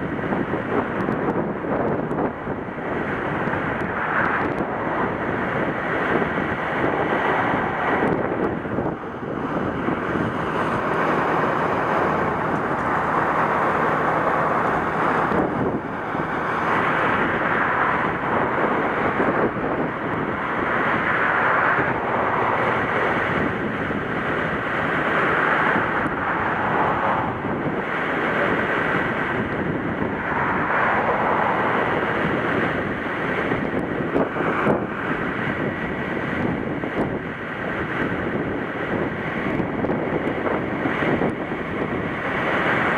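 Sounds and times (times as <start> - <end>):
ocean surf: 0.0 - 42.9
wind buffeting microphone: 0.0 - 42.9.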